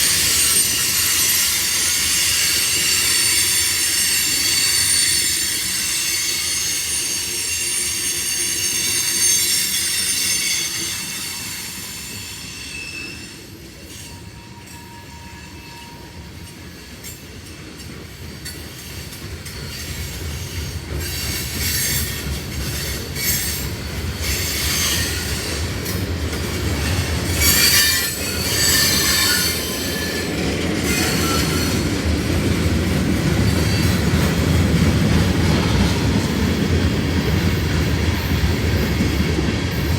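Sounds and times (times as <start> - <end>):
rail cars rumbling and clattering: 0.0 - 39.9
train wheels squealing: 0.0 - 39.9.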